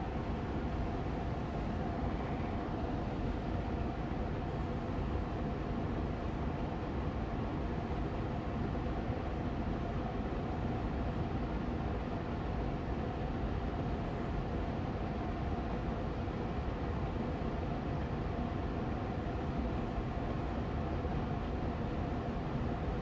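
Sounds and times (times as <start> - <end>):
air purifier fan running: 0.0 - 23.0.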